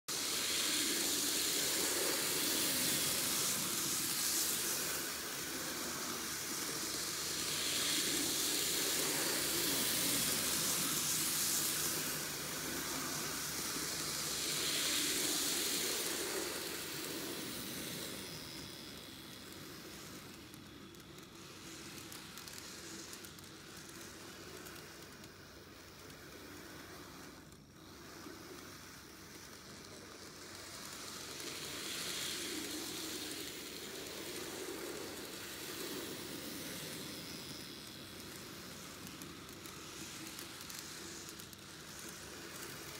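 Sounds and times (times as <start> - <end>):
model train running on track: 0.1 - 42.9.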